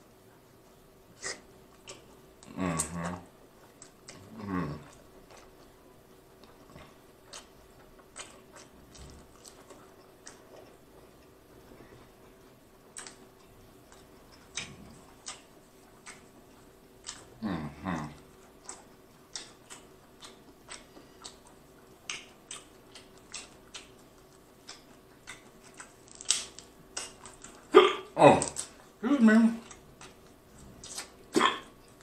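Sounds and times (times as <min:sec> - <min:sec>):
wet chewing mouth clicks: 0:01.2 - 0:05.8, 0:06.4 - 0:12.0, 0:12.9 - 0:29.0, 0:29.6 - 0:32.0.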